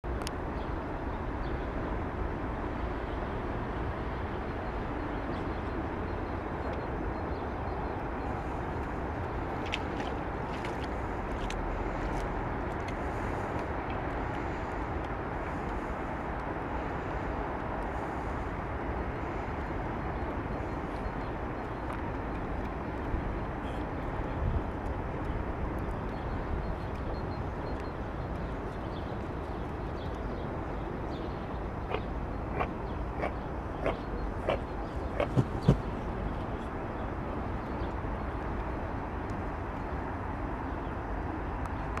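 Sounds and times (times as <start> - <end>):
outdoor background rumble: 0.0 - 42.0
wind: 0.0 - 42.0
distant traffic: 0.1 - 42.0.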